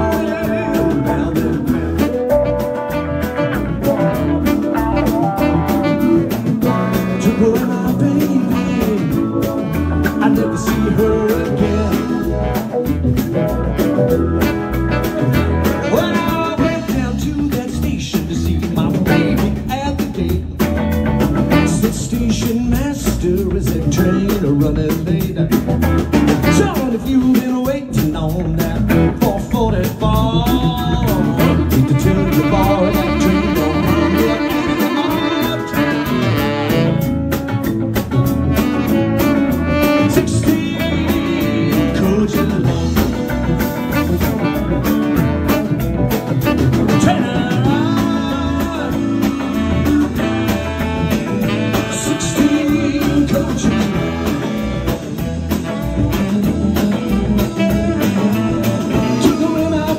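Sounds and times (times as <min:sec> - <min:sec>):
drum and bass beat: 0:00.0 - 0:59.9
electric guitar: 0:00.0 - 0:59.9.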